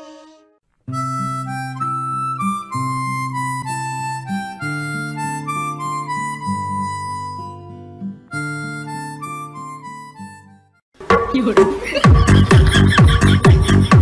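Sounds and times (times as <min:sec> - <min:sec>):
instrumental background music: 0:00.9 - 0:14.0.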